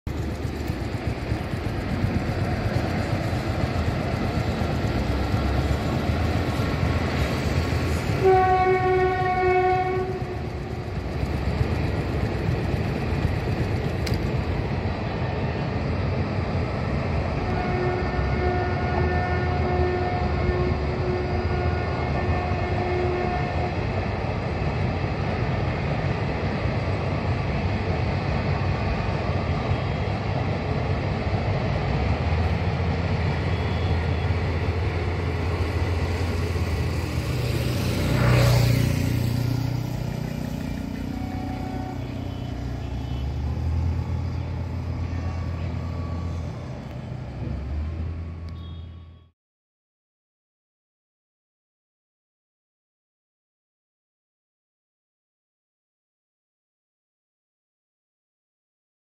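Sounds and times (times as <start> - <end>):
train wheels rumbling on track: 0.1 - 49.2
train pass-by sweeping in pitch: 0.1 - 49.3.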